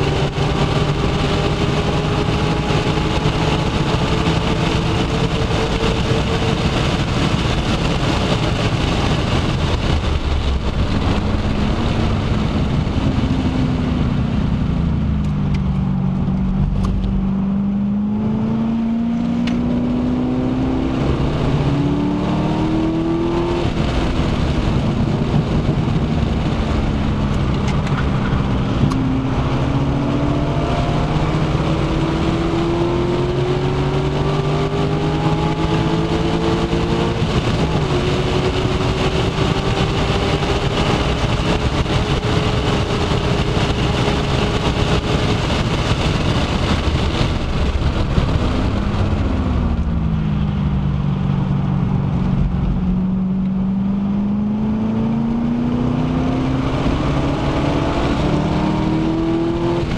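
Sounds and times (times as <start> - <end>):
car engine revving: 0.0 - 59.9
wind noise: 0.0 - 59.9.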